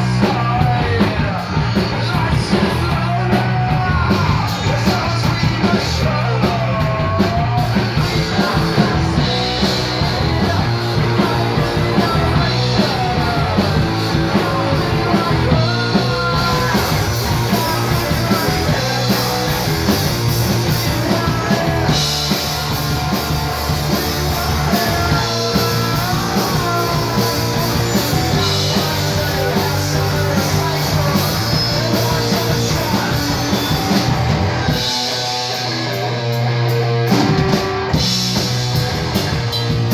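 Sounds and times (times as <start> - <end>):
person singing: 0.0 - 34.2
rock band playing live: 0.0 - 39.9.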